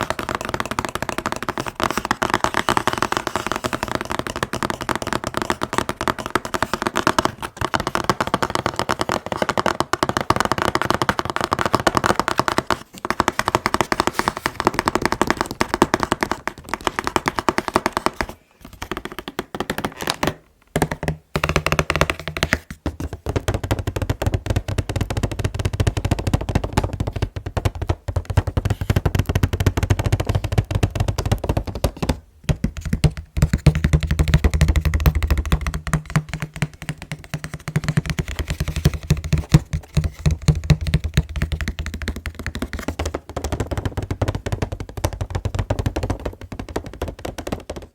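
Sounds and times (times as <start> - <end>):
fast tapping on packaging box: 0.0 - 47.9.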